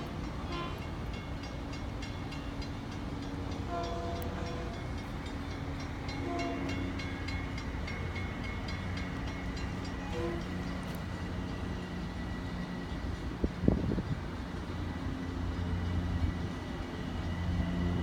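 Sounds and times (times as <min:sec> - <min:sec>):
electric train rumbling on track: 0:00.0 - 0:18.0
train wheels squealing: 0:00.1 - 0:18.0.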